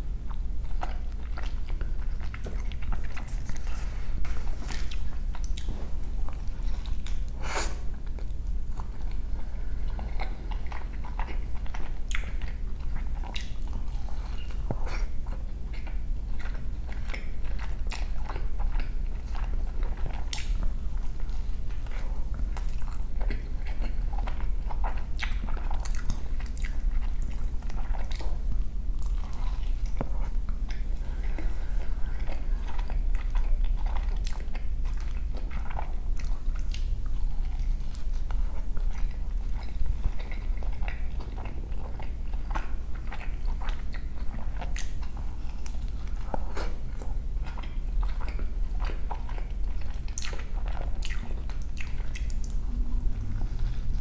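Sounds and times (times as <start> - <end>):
steady low hum: 0.0 - 54.0
mouth chewing with wet clicks: 0.2 - 54.0.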